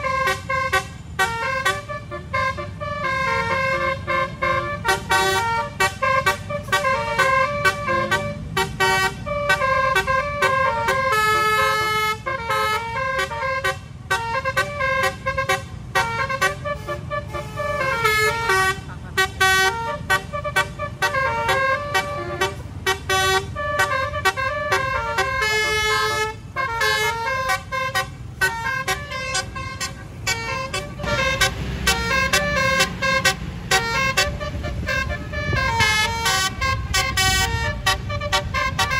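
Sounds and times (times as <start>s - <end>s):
musical bus horn melody: 0.0s - 38.9s
road and engine rumble: 0.0s - 38.9s.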